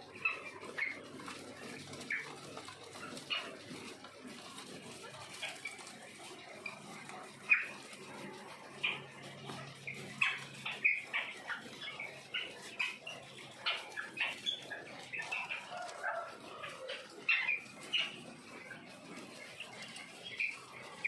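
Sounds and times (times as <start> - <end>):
quail chirping: 0.0 - 21.0.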